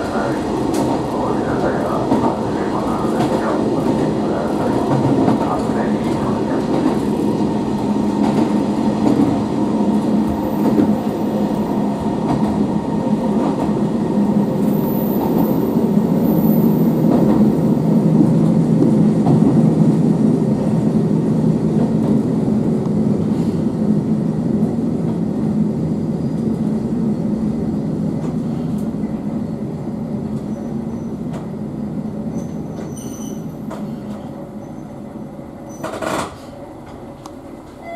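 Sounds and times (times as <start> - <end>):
railcar engine hum: 0.0 - 37.9.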